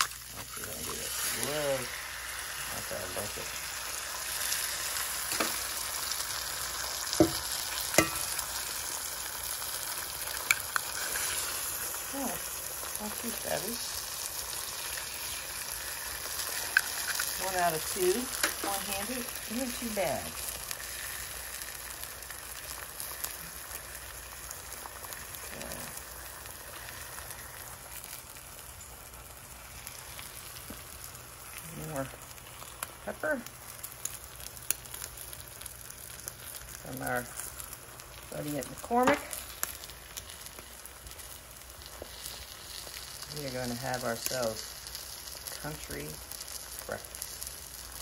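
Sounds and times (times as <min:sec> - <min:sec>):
food sizzling in skillet: 0:00.0 - 0:48.0.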